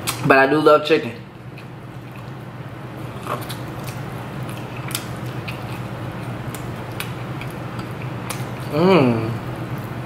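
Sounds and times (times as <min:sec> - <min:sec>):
chewing fried chicken: 0:01.3 - 0:10.0.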